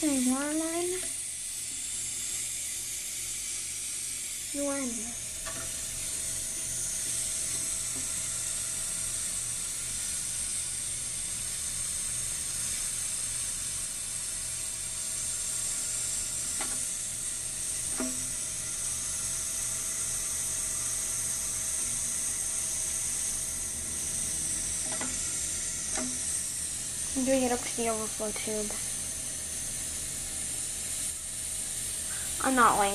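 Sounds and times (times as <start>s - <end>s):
toilet fill valve hissing: 0.0s - 32.9s.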